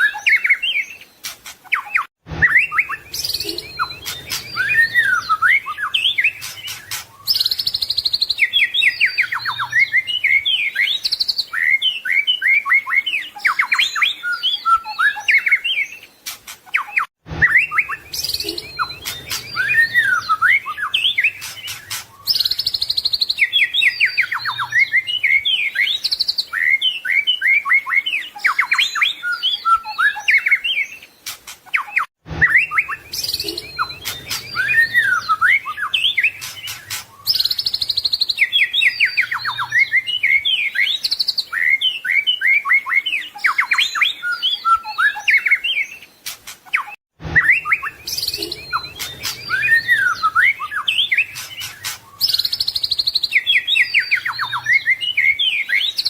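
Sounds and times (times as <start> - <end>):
songbird singing whistles and trills: 0.0 - 56.0.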